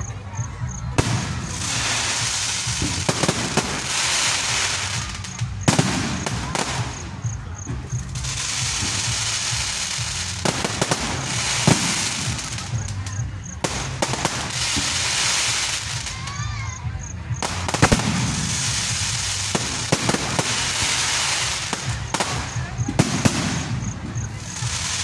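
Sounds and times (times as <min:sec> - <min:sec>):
fireworks bangs: 0:00.0 - 0:25.0
fireworks hissing and crackle: 0:00.0 - 0:25.0.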